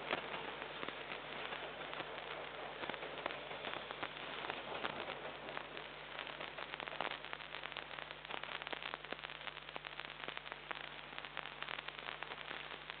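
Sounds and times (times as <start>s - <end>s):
dense irregular crackling: 0.0s - 13.0s
hiss: 0.0s - 13.0s.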